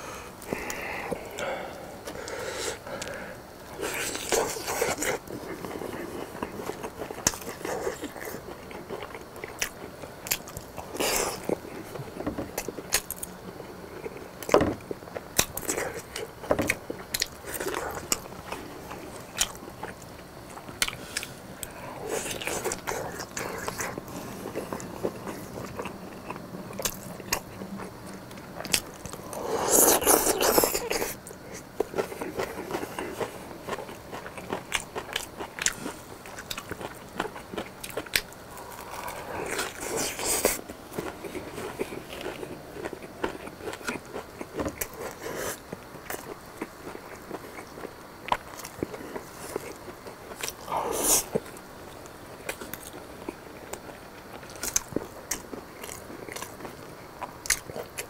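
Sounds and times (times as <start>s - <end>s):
crunchy biting and chewing: 0.4s - 58.0s.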